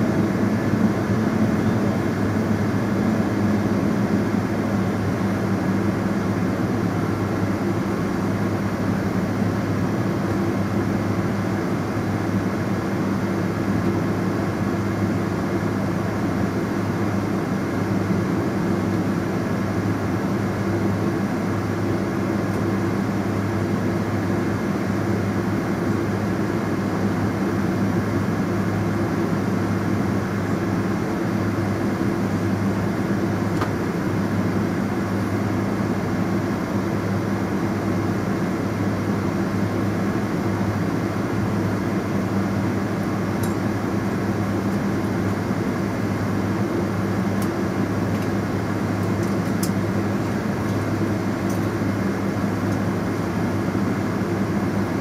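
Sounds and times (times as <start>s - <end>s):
aircraft cabin engine hum: 0.0s - 55.0s.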